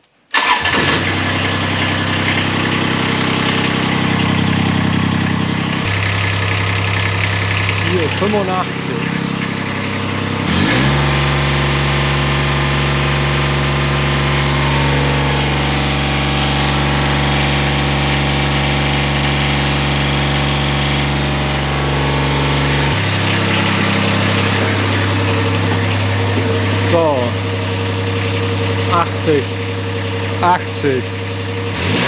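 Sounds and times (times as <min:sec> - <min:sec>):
diesel engine running at high revs: 0:00.4 - 0:32.0.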